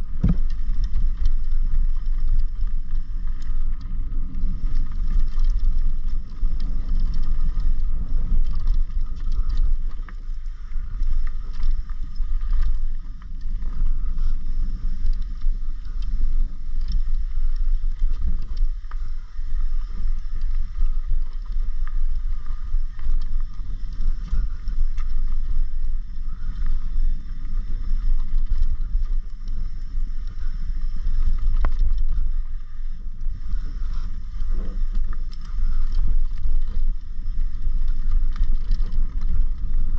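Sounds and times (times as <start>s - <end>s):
bike rattles and knocks: 0.0s - 39.9s
wind and tyres rumbling: 0.0s - 39.9s.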